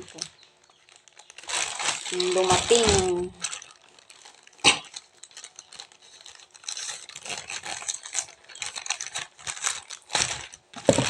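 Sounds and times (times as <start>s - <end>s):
packaging being torn and rustled: 0.0s - 11.0s.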